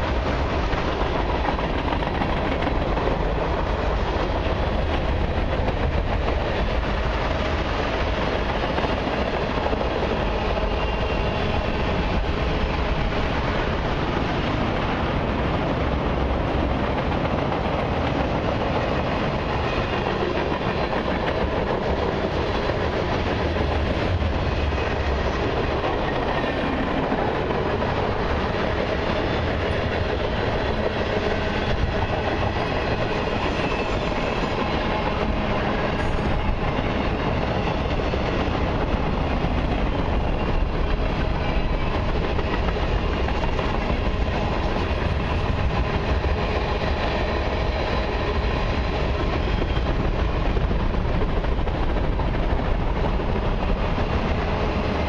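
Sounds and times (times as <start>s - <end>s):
freight train wheels rolling on rails: 0.0s - 55.0s.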